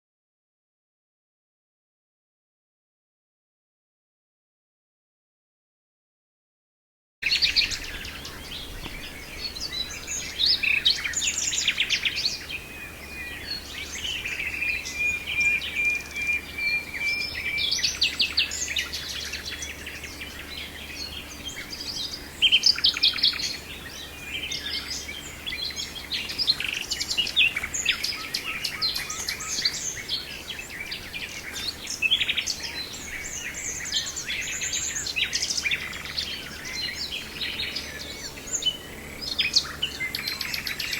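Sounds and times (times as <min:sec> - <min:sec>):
nightingale singing: 0:07.2 - 0:40.9.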